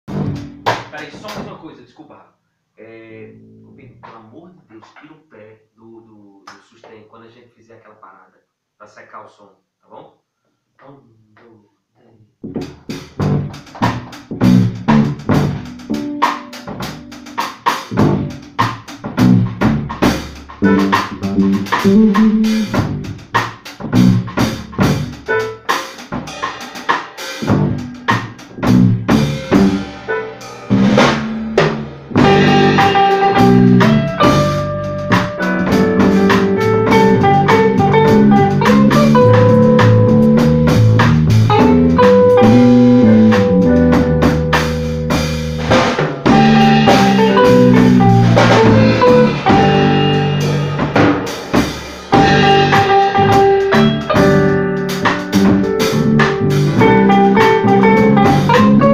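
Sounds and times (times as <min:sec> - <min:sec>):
bass and keyboard notes: 0:00.0 - 0:01.6, 0:02.8 - 0:04.7, 0:12.4 - 0:58.9
drum kit playing: 0:00.0 - 0:01.7, 0:12.4 - 0:58.9.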